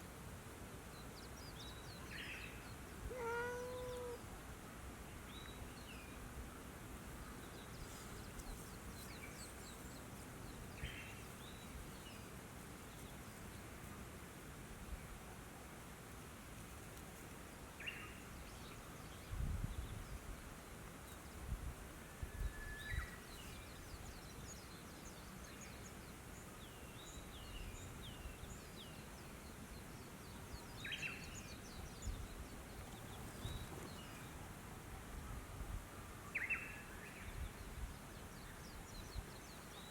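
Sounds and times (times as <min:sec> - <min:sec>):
faint outdoor background noise: 0:00.0 - 0:39.9.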